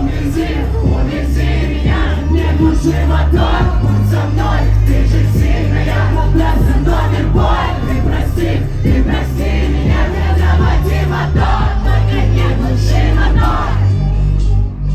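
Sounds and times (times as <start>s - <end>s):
loud live band music: 0.0s - 13.8s
crowd singing and shouting: 0.0s - 14.9s.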